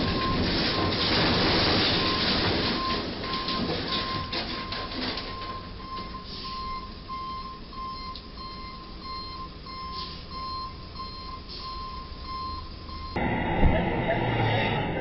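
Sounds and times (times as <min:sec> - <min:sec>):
truck reversing alarm beeping: 0:00.0 - 0:13.9
low traffic rumble: 0:00.0 - 0:15.0.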